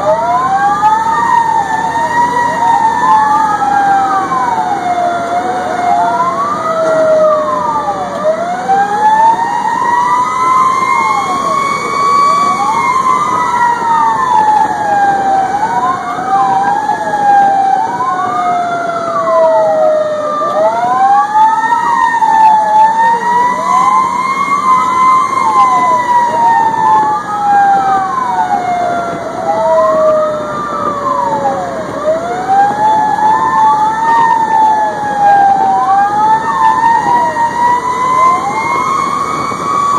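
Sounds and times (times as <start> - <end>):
fire engine sirens: 0.0 - 39.9
truck running noise: 0.0 - 39.9.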